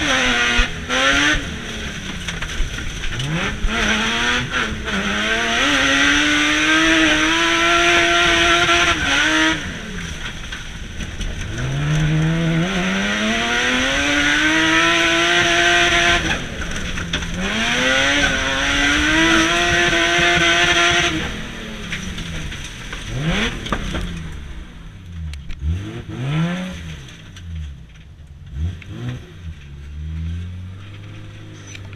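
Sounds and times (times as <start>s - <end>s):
car engine at full throttle: 0.0s - 31.9s.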